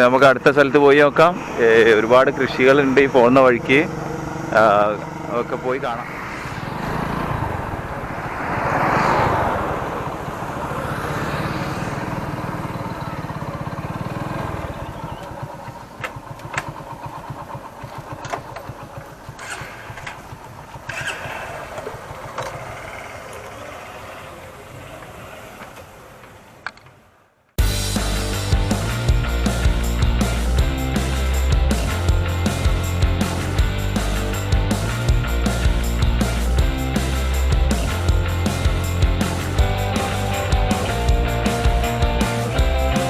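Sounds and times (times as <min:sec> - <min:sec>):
motorcycle engine starting and running: 0:00.0 - 0:26.9, 0:27.6 - 0:43.0.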